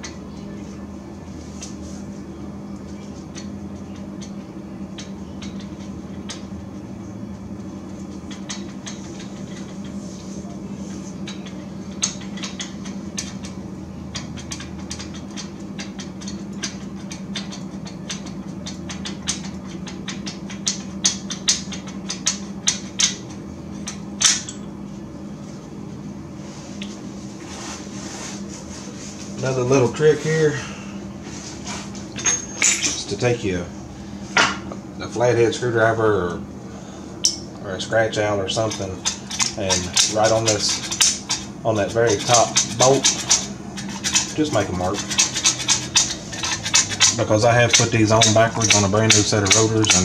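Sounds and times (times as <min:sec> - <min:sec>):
steady low fan hum: 0:00.0 - 0:50.0.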